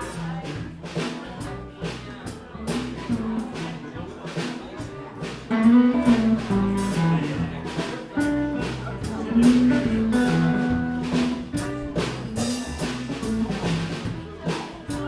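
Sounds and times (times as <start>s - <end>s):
blues band playing: 0.0s - 15.0s.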